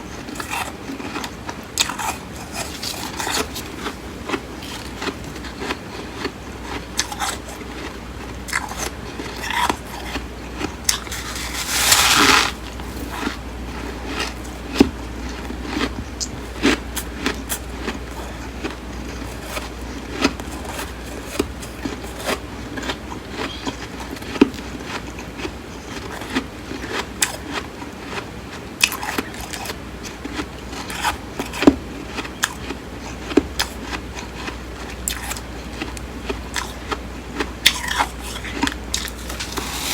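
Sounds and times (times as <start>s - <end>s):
chewing crunchy frost: 0.1s - 39.9s.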